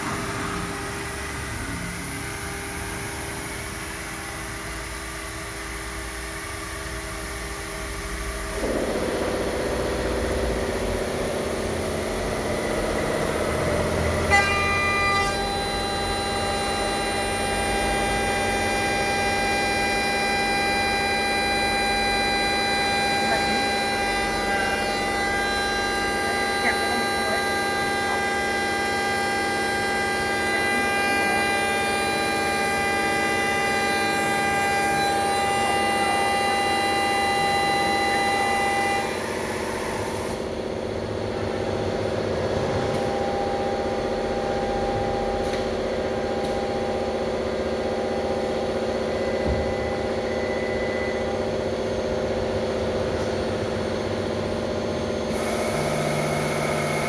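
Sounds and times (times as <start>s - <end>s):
milling machine spindle whine: 0.0s - 57.0s.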